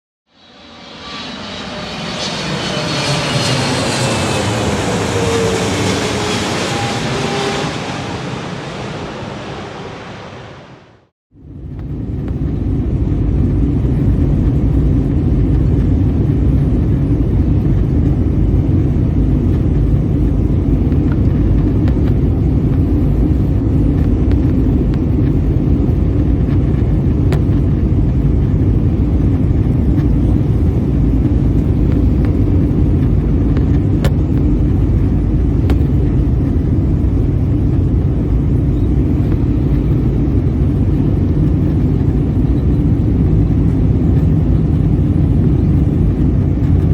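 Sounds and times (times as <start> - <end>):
airplane cabin rumble: 0.3 - 46.9.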